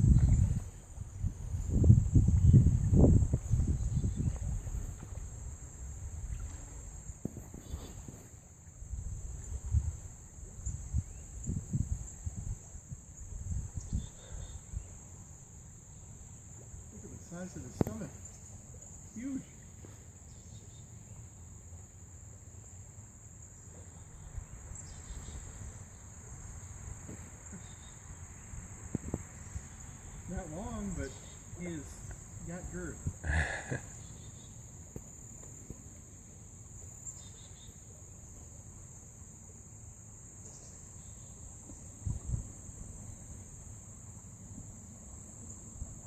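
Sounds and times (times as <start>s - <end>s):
crickets trilling: 0.0s - 46.0s
insects buzzing: 0.0s - 46.0s.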